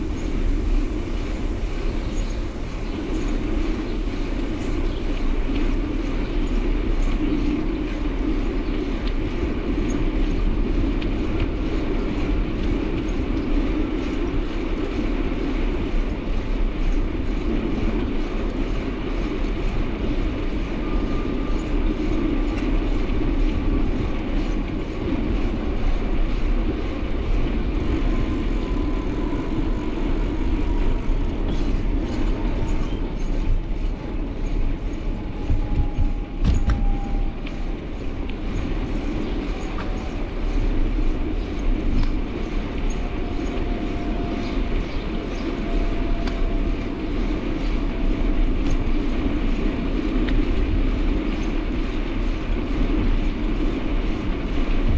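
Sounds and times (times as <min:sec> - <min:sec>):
faint falling whine: 0:00.0 - 0:54.8
moving vehicle rumble: 0:00.0 - 0:54.9.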